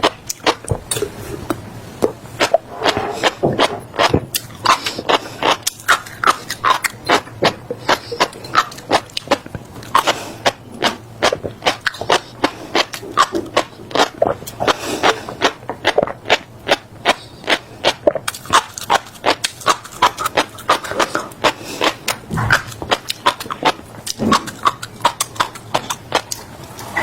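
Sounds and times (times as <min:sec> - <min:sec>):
mouth chewing crunching seeds: 0:00.0 - 0:27.0.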